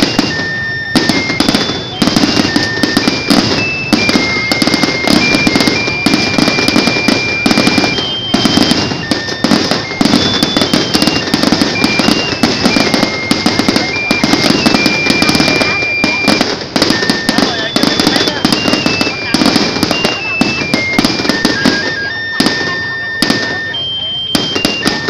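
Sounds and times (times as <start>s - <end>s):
fireworks bangs and crackling: 0.0s - 25.0s
thin high-pitched tune: 0.0s - 25.0s.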